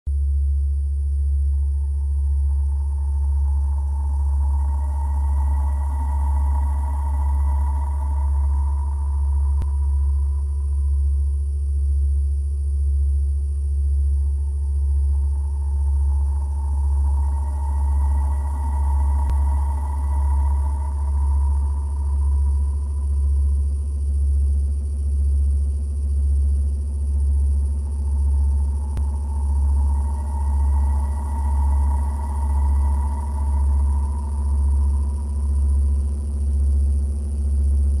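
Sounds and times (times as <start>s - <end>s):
low rumble through stethoscope: 0.1s - 38.0s.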